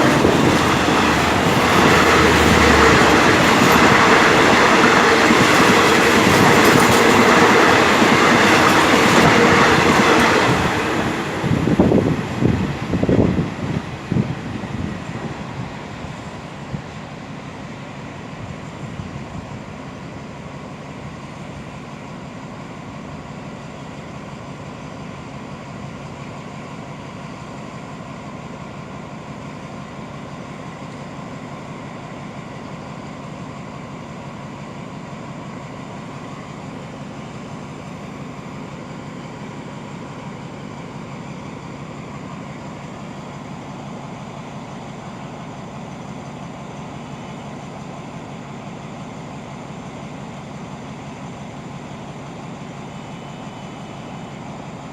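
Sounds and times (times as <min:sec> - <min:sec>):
train diesel engine idling: 0:00.0 - 0:54.9.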